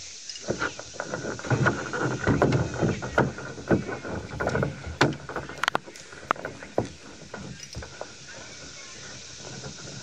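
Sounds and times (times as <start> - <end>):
knocks and rubbing on boat hull: 0.5 - 10.0.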